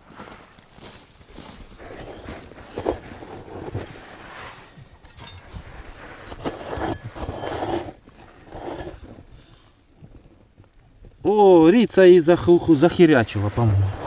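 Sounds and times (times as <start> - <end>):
hands scraping loose earth: 0.0 - 10.5, 12.3 - 14.0.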